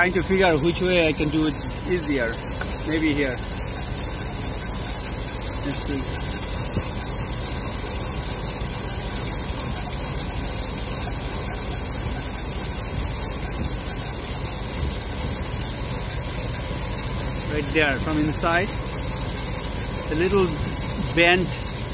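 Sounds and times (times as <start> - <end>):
drive belt squealing: 0.0 - 21.9
engine running: 0.0 - 21.9.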